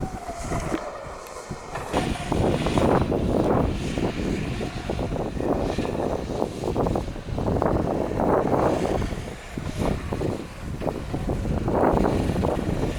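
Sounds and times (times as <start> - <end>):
kart engine running: 0.0 - 12.9
wind buffeting microphone: 0.0 - 12.9.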